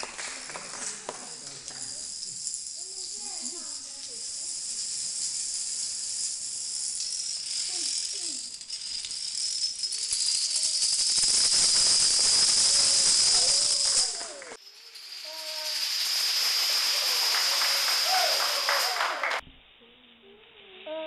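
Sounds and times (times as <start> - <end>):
plastic dominoes toppling: 0.0 - 19.2.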